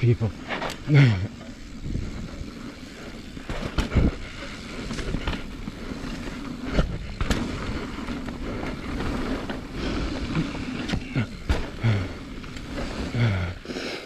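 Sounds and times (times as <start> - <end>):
bike knocking and rattling: 0.0 - 13.8
bike tyres rushing on dirt: 0.0 - 14.0.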